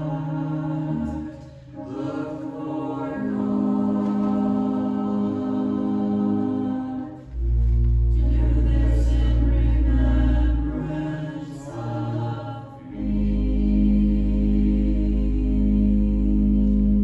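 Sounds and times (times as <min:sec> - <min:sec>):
church choir singing: 0:00.0 - 0:17.0
pipe organ chords: 0:00.0 - 0:17.0.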